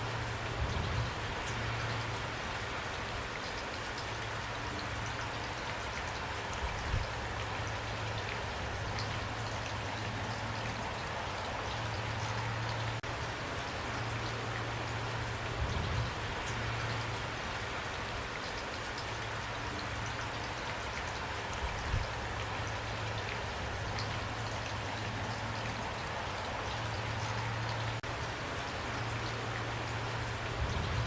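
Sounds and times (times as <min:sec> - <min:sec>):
raindrops ticking: 0:00.0 - 0:31.0
steady rain hiss: 0:00.0 - 0:31.0.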